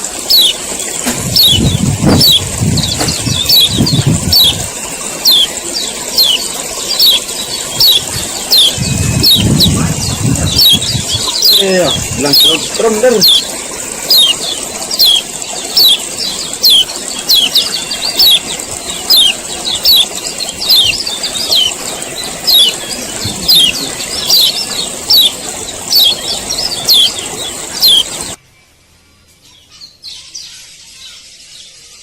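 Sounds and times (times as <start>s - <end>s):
bird chirping call: 0.0s - 28.4s
steady high hiss: 0.0s - 29.3s.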